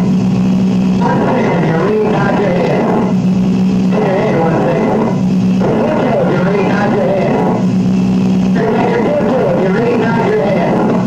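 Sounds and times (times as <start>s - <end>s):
low drone: 0.0s - 11.0s.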